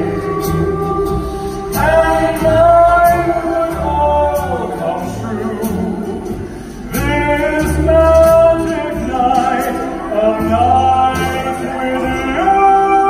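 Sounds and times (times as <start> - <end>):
instrumental accompaniment with bass: 0.0 - 13.0
man singing long notes: 0.0 - 13.0.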